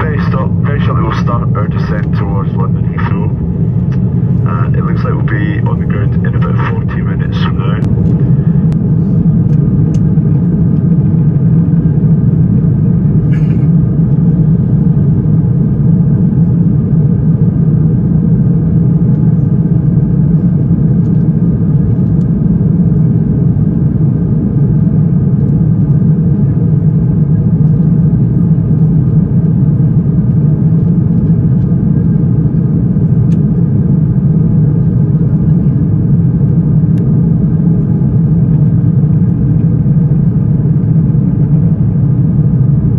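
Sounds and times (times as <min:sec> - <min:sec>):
airliner cabin drone: 0:00.0 - 0:42.9.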